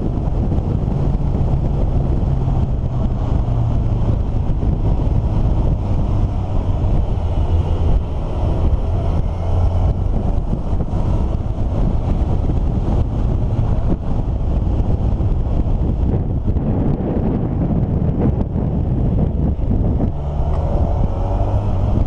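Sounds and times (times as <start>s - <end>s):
faint engine whine: 0.0s - 22.0s
vehicle engine rumble: 0.0s - 22.0s
wind buffeting microphone: 0.0s - 22.0s.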